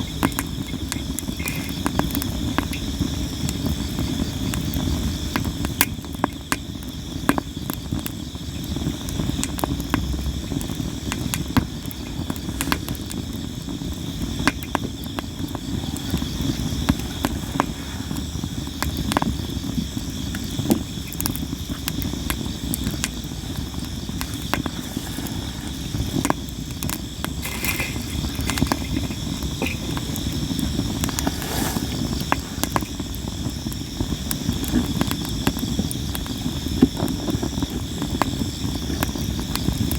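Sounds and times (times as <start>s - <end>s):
campfire crackling and popping: 0.0s - 39.9s
insects trilling: 0.0s - 39.9s
low rumble of flame: 0.0s - 39.9s.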